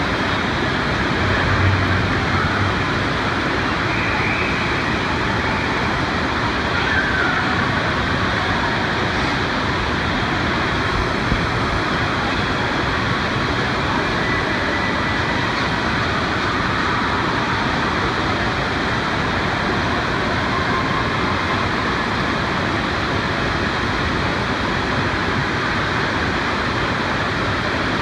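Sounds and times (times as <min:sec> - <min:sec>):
water rushing into splash pool: 0:00.0 - 0:28.0.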